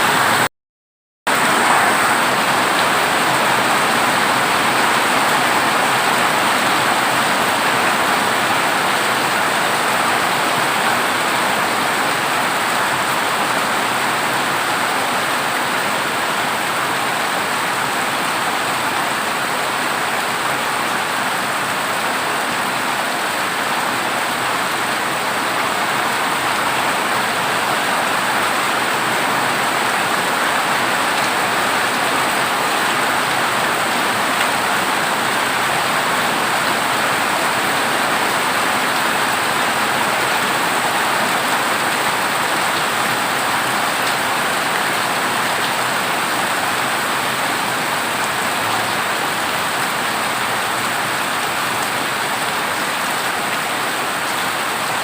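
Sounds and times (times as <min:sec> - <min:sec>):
heavy rain on a metal roof: 0:00.0 - 0:00.5, 0:01.3 - 0:55.0.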